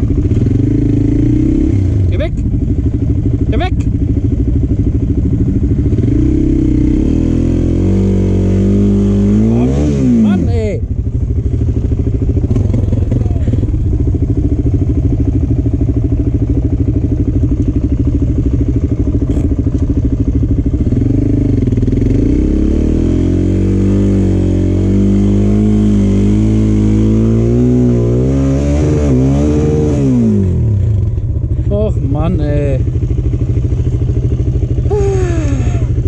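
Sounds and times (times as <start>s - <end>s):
quad engine running hard: 0.0s - 36.0s.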